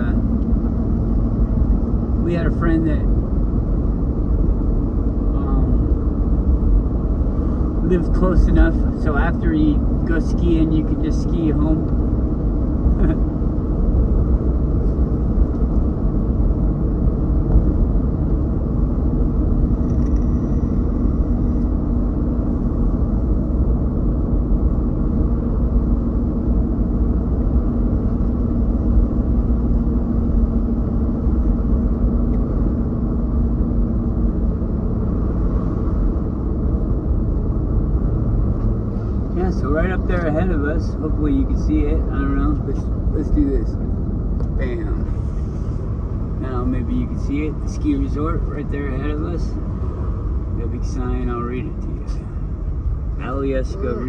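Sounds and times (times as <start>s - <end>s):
car cabin road rumble: 0.0s - 54.0s
faint steady hum: 0.0s - 54.0s.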